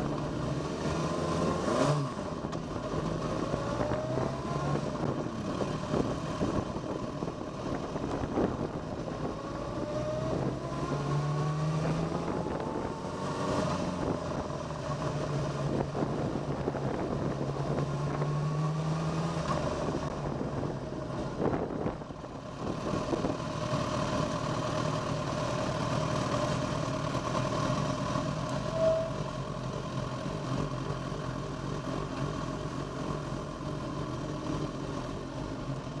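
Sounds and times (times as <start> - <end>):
motorcycle engine running: 0.0 - 18.7, 19.3 - 36.0.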